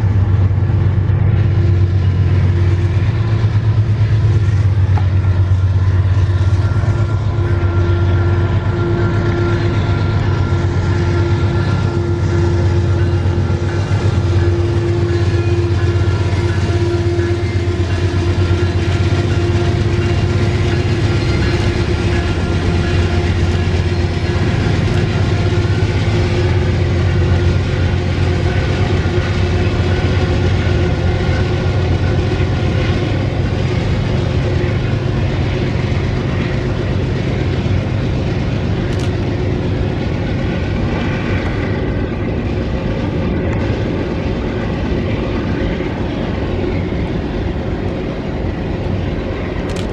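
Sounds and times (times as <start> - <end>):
freight train rolling on rails: 0.0 - 49.9.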